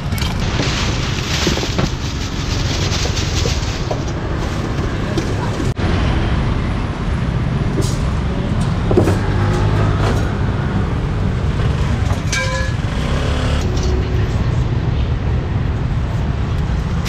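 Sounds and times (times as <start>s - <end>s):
city traffic rumble: 0.0s - 17.0s
vehicles passing close by: 0.0s - 17.0s.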